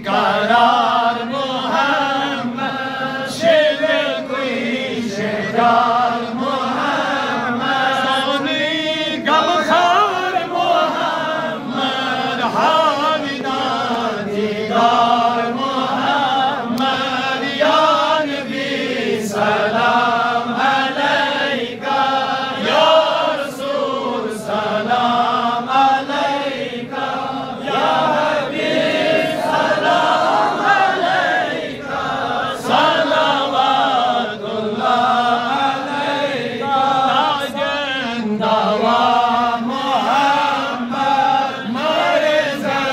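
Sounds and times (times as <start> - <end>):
men chanting devotional song: 0.0 - 42.9.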